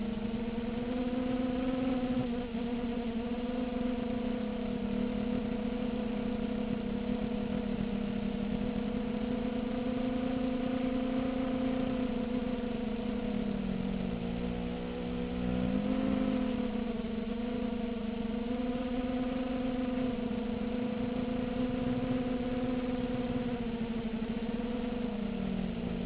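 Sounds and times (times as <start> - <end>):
quadcopter motors buzzing: 0.0 - 26.0.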